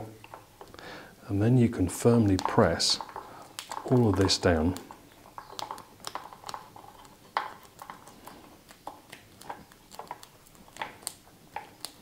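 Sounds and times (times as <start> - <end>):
tape crinkling and tapping: 0.0 - 0.8, 1.4 - 12.0.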